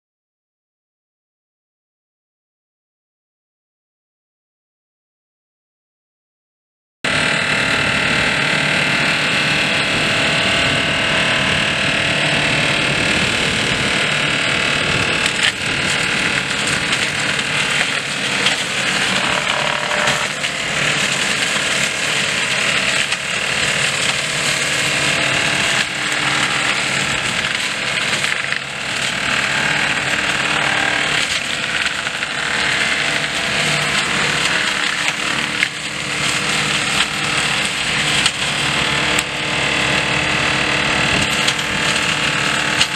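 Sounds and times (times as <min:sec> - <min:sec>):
mulcher mechanical clatter: 0:07.1 - 0:42.9
tractor engine: 0:07.1 - 0:42.9
wood cracking: 0:07.9 - 0:42.9.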